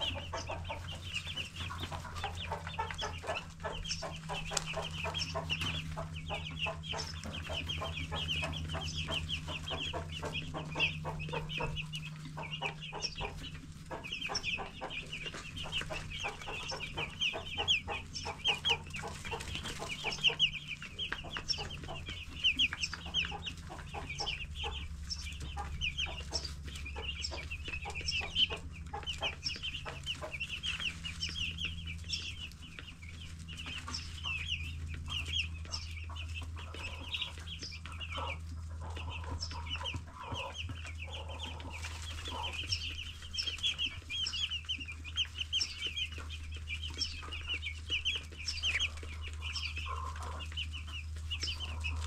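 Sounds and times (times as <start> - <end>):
chicks peeping: 0.0 - 52.0
steady low hum: 0.0 - 52.0.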